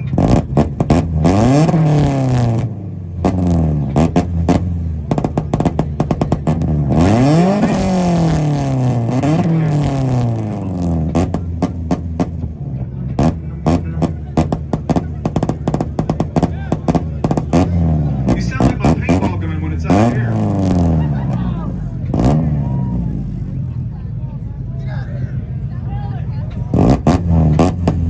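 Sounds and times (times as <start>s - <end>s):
car engine revving hard: 0.0s - 23.9s, 26.5s - 28.0s
exhaust pops and bangs: 0.0s - 23.9s, 26.4s - 28.0s
engines idling: 0.0s - 28.0s.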